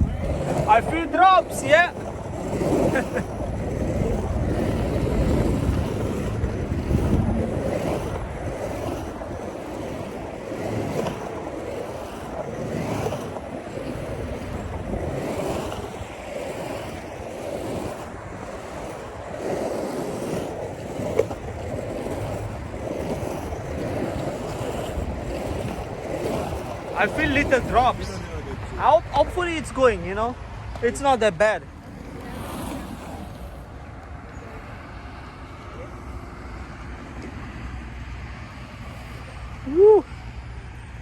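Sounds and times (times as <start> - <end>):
skateboard wheels rolling on pavement: 0.0 - 41.0
wind buffeting microphone: 0.0 - 41.0.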